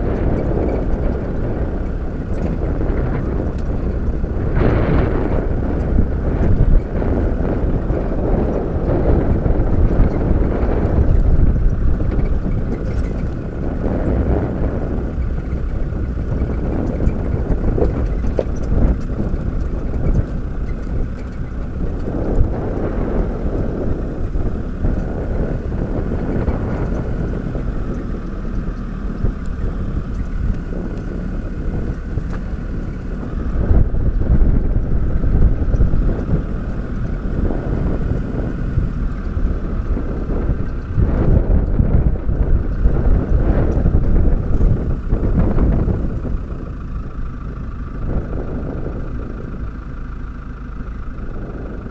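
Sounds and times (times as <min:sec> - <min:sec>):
vehicle engine rumble: 0:00.0 - 0:51.9
wind buffeting microphone: 0:00.0 - 0:51.9.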